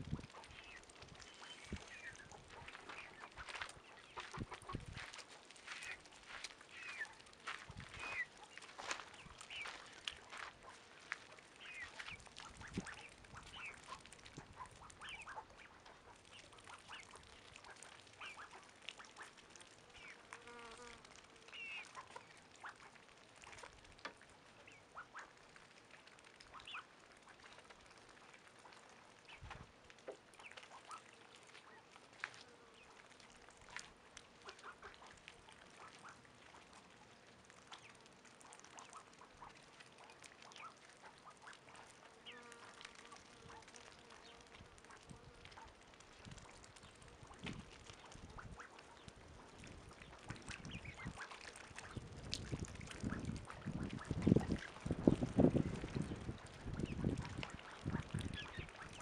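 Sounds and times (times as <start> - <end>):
ducks dabbling in mud: 0.0 - 59.0.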